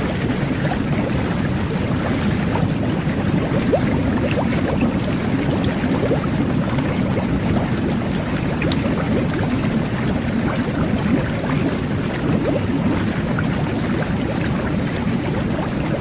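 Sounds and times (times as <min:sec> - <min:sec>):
bubbles popping: 0:00.0 - 0:16.0
churning bath water: 0:00.0 - 0:16.0.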